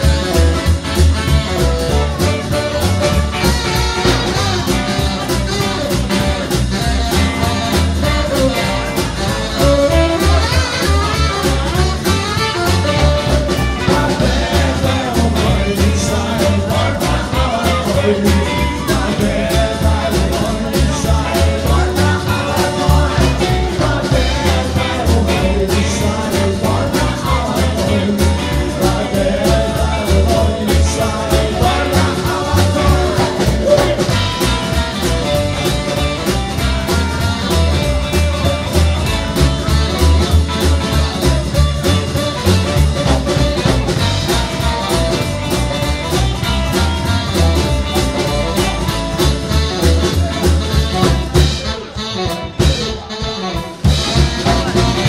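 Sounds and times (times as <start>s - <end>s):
man singing: 0.0s - 36.4s, 39.9s - 55.0s
acoustic guitar: 0.0s - 55.0s
double bass: 0.0s - 55.0s
drum kit: 0.0s - 55.0s.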